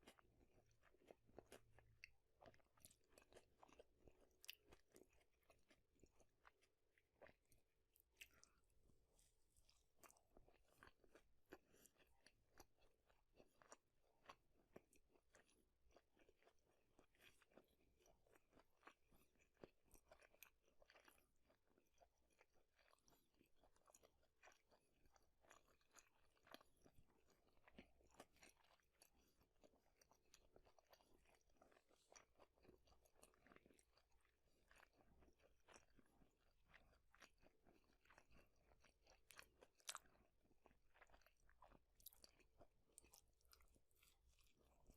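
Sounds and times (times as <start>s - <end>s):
chewing crunchy food: 0.0s - 44.9s.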